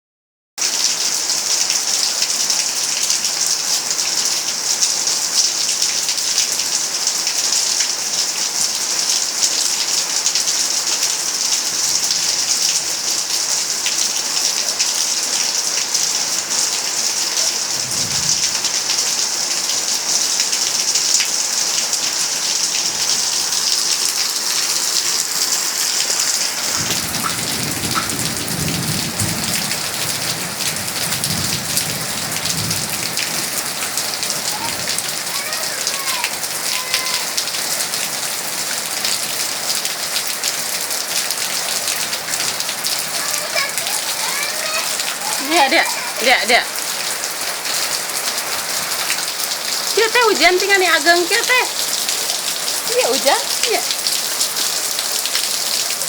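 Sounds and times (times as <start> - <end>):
rain falling: 0.6 - 56.0.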